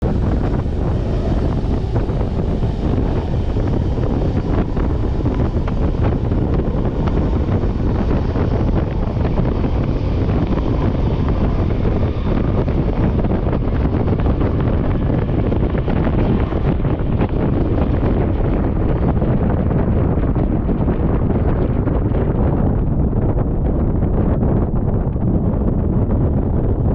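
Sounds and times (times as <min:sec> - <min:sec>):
moving train rumble: 0:00.0 - 0:26.9
wind buffeting microphone: 0:00.0 - 0:26.9.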